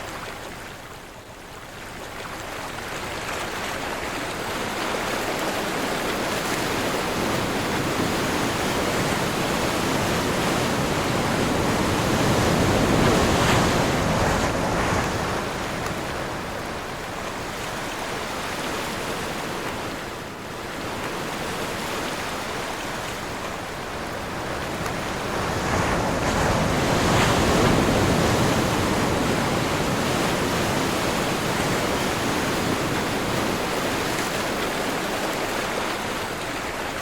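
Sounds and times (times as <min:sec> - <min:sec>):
wind: 0:00.0 - 0:37.0
breaking ocean waves: 0:03.6 - 0:37.0.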